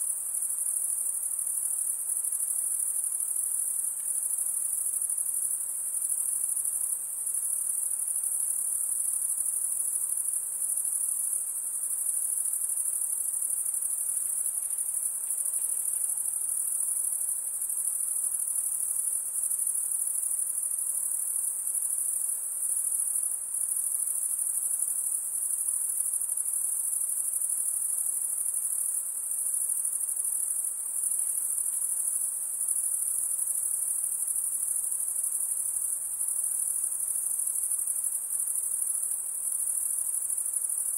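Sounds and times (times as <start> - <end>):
insects trilling: 0.1 - 40.9.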